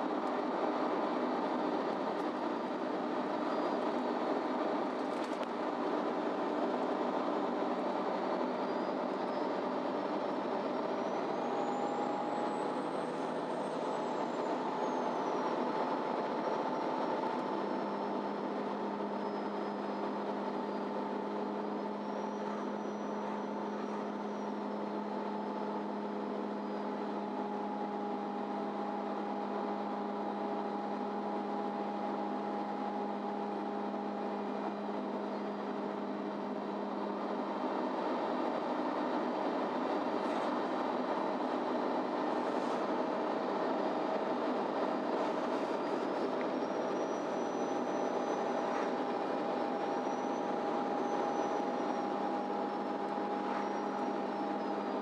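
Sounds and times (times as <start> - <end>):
bus engine running: 0.0 - 55.0
faint high whine: 0.0 - 55.0.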